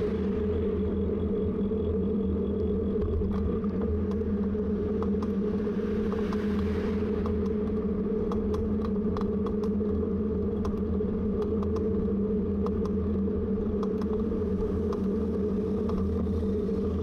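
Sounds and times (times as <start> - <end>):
bicycle riding rumble: 0.0 - 17.0.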